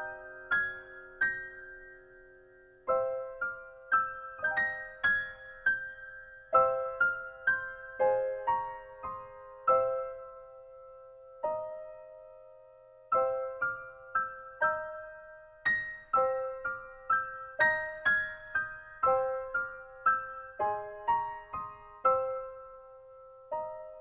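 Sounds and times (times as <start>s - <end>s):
gentle keyboard melody: 0.0s - 24.0s.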